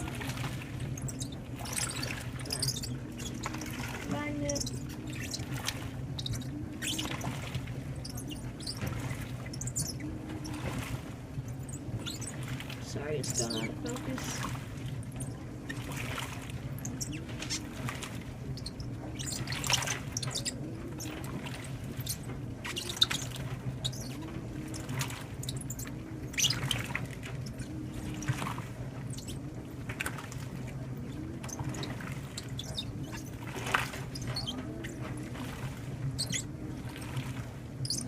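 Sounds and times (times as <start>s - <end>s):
washing machine motor hum: 0.0s - 38.0s
water sloshing in washing machine: 0.0s - 38.0s.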